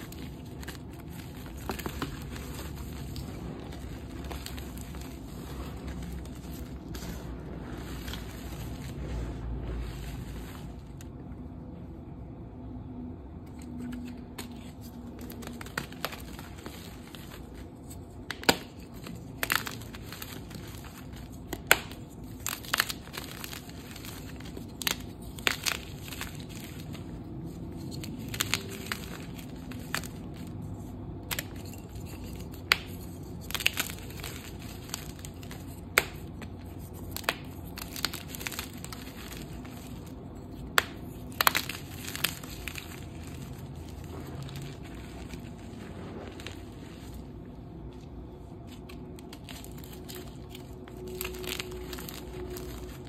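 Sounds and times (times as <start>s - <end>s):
chalk chunks crunching: 0.0s - 11.1s, 13.6s - 53.0s.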